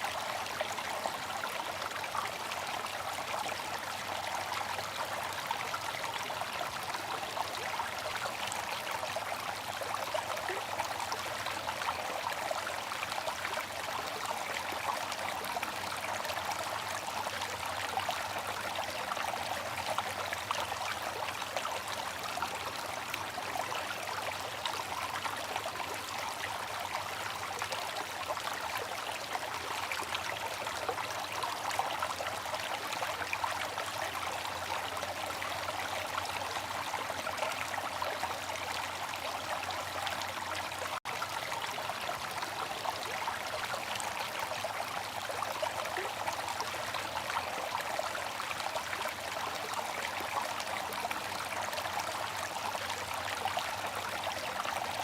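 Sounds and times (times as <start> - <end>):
water trickling from fountain: 0.0 - 55.0.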